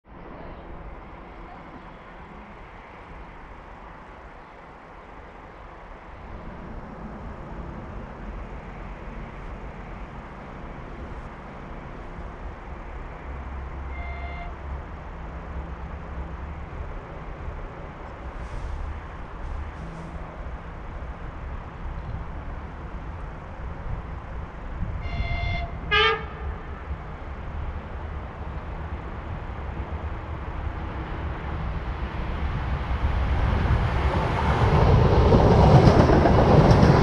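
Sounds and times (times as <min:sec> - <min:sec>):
distant traffic rumble: 0:00.0 - 0:37.0.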